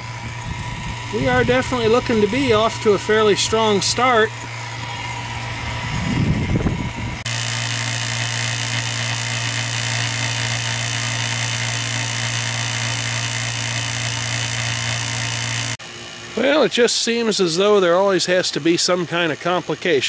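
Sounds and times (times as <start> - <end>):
vacuum pump motor humming: 0.0 - 20.0.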